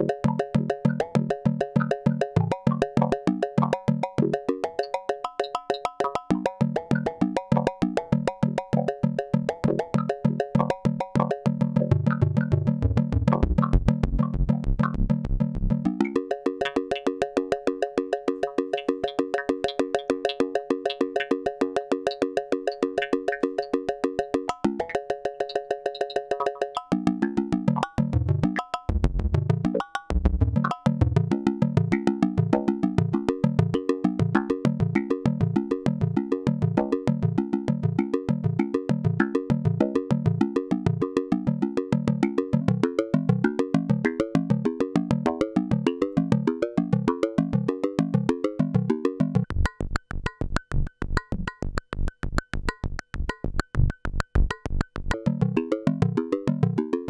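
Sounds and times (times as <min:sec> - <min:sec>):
synthesizer rhythmic pattern: 0:00.0 - 0:57.0.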